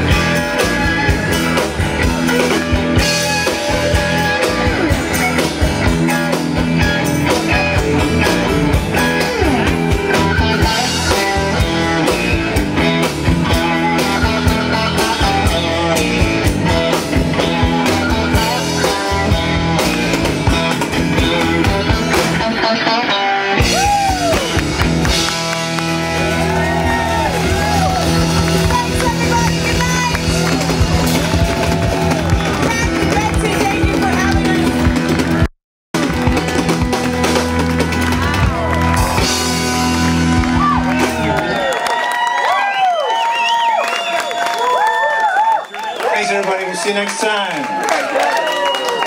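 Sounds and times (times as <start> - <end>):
live rock band playing: 0.0 - 44.9.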